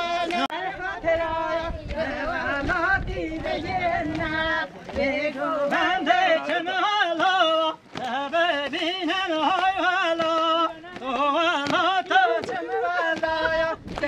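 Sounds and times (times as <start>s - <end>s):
wedding dance music: 0.0s - 14.0s.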